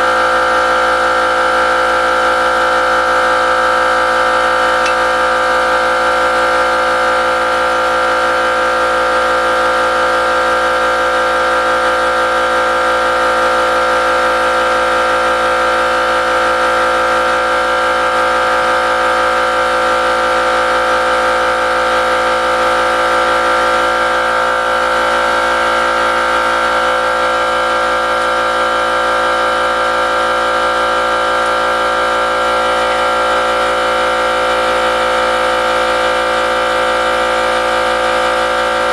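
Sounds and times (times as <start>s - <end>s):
machine drone with whine: 0.0s - 38.9s.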